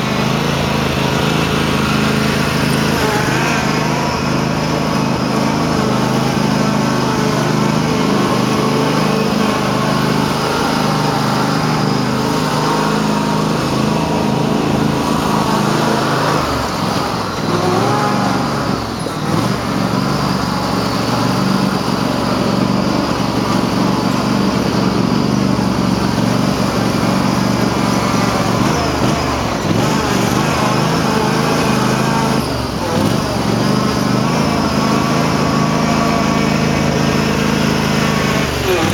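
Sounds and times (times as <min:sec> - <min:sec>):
garden tractor engine running hard: 0:00.0 - 0:38.9.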